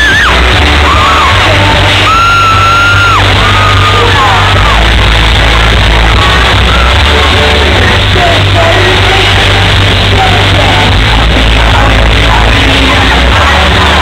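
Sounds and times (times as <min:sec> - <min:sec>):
live pop-rock band playing: 0:00.0 - 0:14.0
singer's melody: 0:00.0 - 0:14.0.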